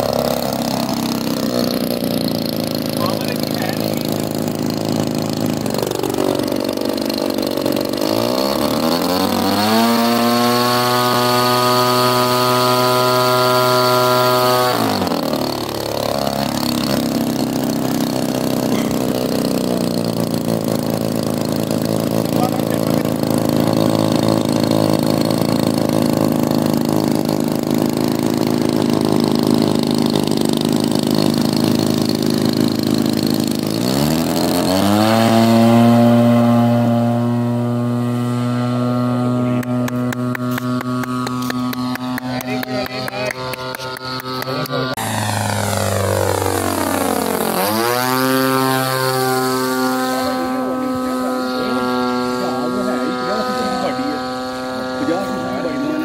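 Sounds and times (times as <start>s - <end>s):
model plane engine revving: 0.0s - 56.0s.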